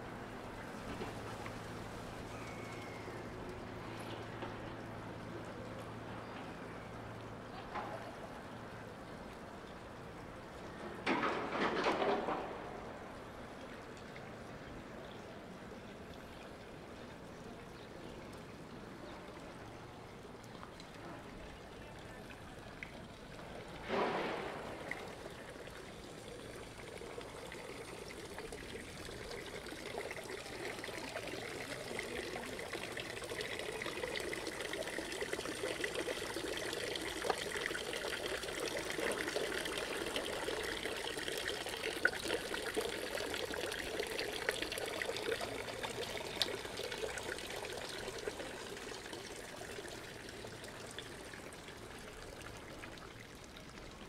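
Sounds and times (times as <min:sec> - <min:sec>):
water pouring and splashing: 0:00.0 - 0:05.2, 0:07.6 - 0:14.9, 0:18.9 - 0:54.0.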